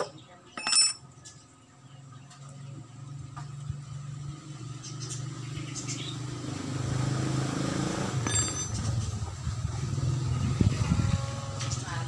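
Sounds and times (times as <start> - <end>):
vehicle engine running: 0.2 - 12.0.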